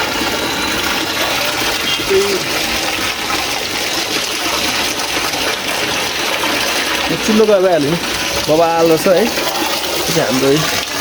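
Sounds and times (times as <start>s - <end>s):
water pouring from stone spout: 0.0s - 11.0s.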